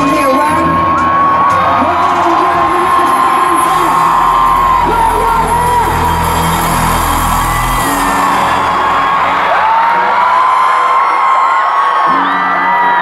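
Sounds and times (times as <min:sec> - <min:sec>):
fans screaming and whooping: 0:00.0 - 0:13.0
live pop concert music: 0:00.0 - 0:13.0.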